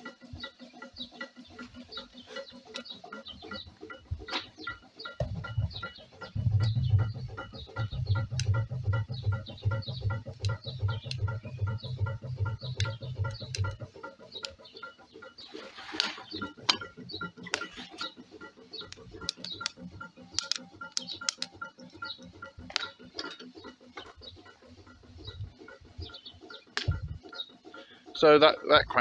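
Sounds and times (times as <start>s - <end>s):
deep rhythmic pulsing: 0.0s - 29.0s
engine crank ticking and knocking: 0.0s - 29.0s.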